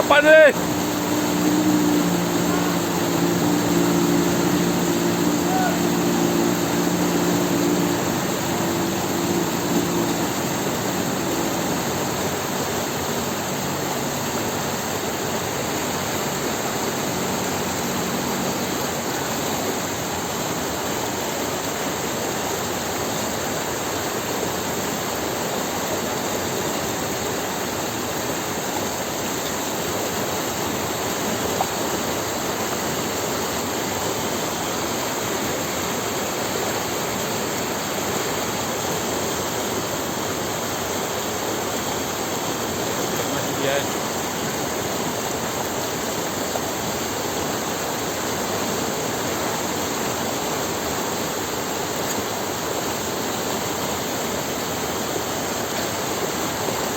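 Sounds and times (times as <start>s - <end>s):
outboard motor hum: 0.0s - 56.9s
rushing water: 0.0s - 56.9s.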